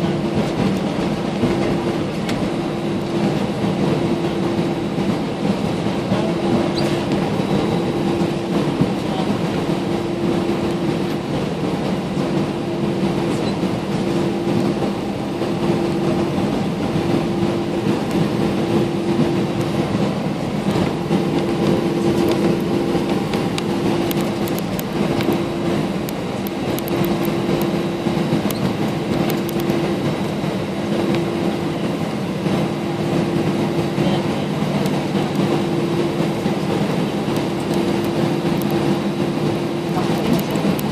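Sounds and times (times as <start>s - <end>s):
broad rushing noise: 0.0s - 40.9s
jet engines idling: 0.0s - 40.9s.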